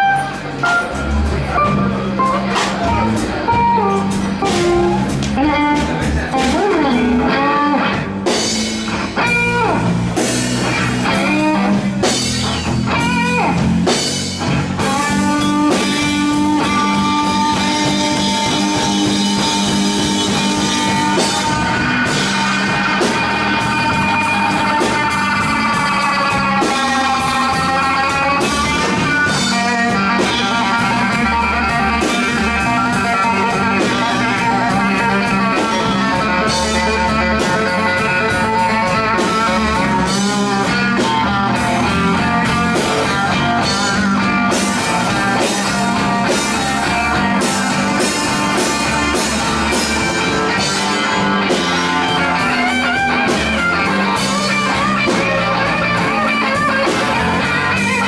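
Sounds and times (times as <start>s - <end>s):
electric blues band: 0.0s - 58.0s
electric guitar solo: 0.0s - 58.0s.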